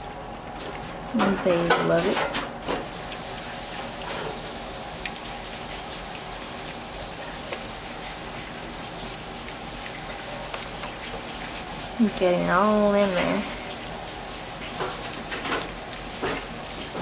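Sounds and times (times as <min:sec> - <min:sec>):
puppies lapping wet food: 0:00.0 - 0:17.0.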